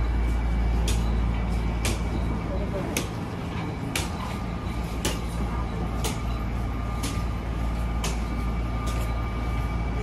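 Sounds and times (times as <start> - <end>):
train car rumble: 0.0 - 10.0.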